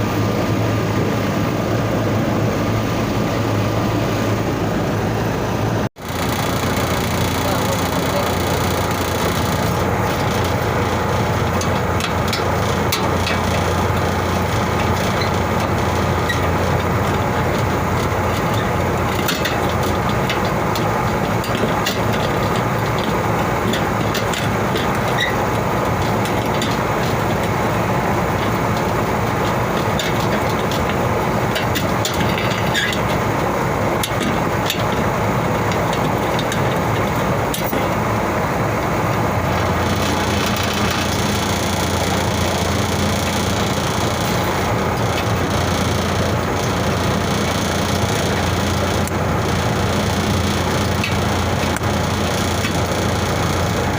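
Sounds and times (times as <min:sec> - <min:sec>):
loud machinery drone: 0:00.0 - 0:53.9
sharp clicks and knocks: 0:06.0 - 0:38.1, 0:39.1 - 0:53.9.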